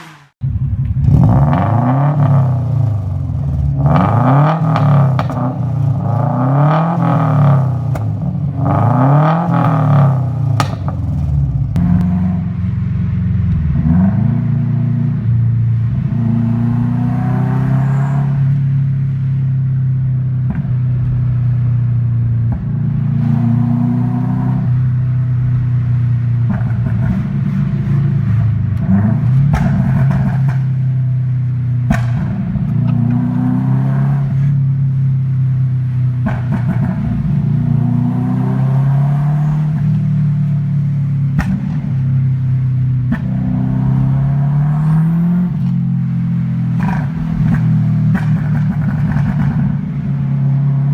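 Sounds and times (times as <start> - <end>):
car engine revving: 0.0 - 50.9
exhaust cracks: 0.0 - 50.9.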